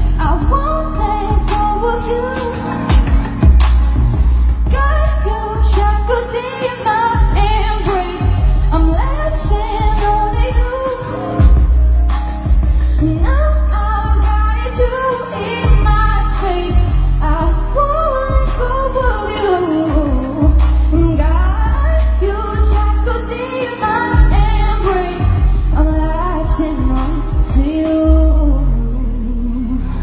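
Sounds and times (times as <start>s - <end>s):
woman singing into a microphone: 0.0s - 3.2s, 4.6s - 30.0s
pop backing with heavy bass: 0.0s - 30.0s.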